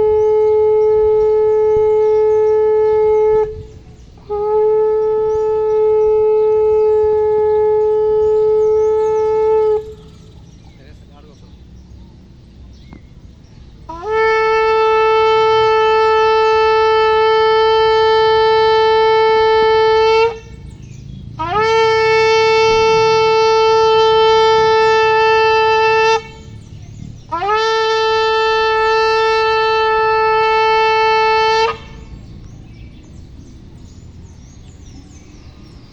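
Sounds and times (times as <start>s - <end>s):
shofar blasts: 0.0s - 10.6s, 13.8s - 32.3s.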